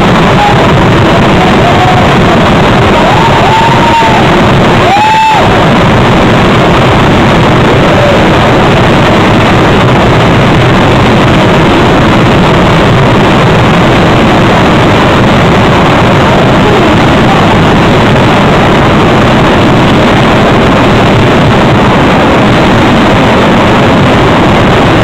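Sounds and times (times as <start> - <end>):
fireworks barrage rumble: 0.0 - 25.0.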